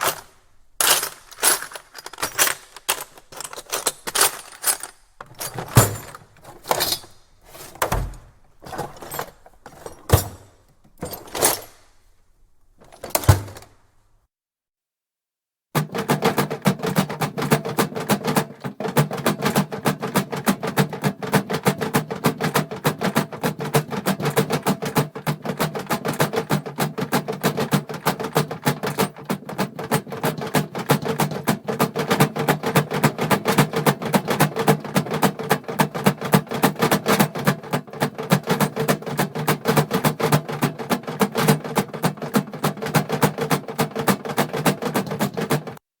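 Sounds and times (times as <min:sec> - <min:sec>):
metal tools clattering in toolbox: 0:00.0 - 0:12.0, 0:12.8 - 0:13.7, 0:15.8 - 0:45.8.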